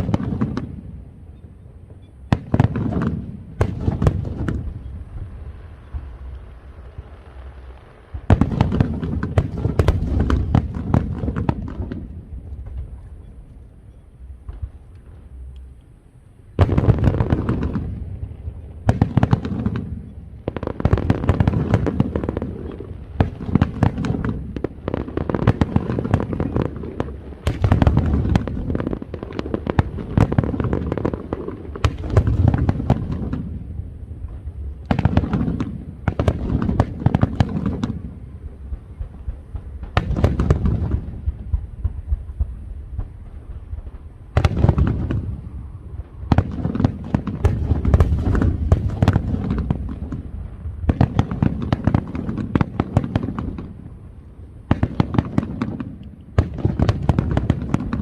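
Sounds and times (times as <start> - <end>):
fireworks banging and crackling: 0.0 - 15.8, 16.5 - 58.0.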